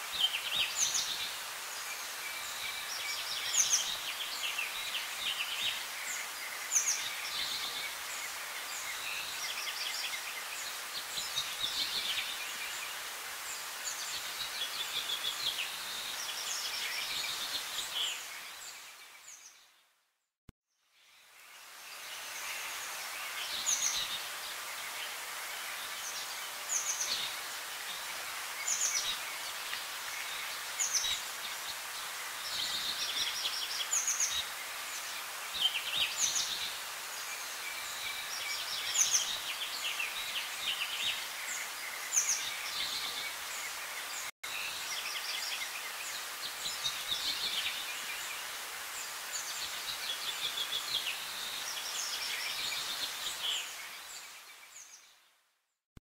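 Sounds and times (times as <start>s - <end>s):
outdoor background hiss: 0.0s - 55.8s.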